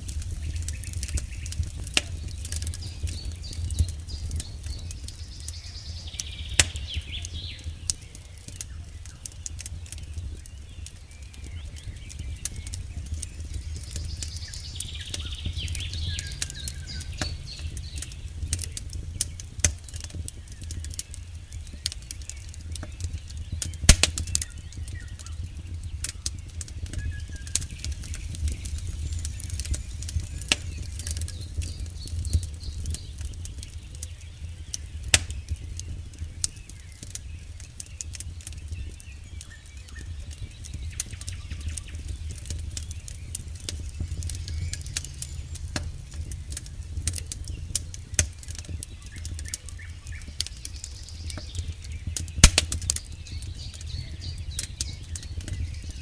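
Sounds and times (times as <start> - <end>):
campfire wood snapping and popping: 0.0 - 56.0
low rumble of flames: 0.0 - 56.0.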